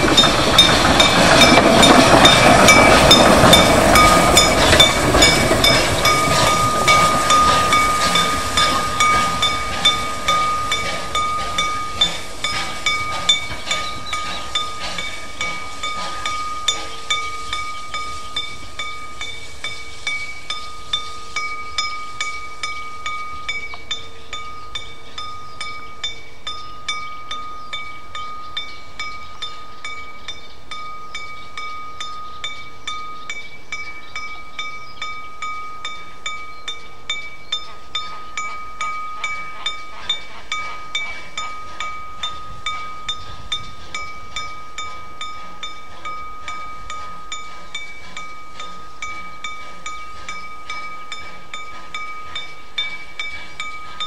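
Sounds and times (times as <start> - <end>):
locomotive bell ringing: 0.0 - 54.0.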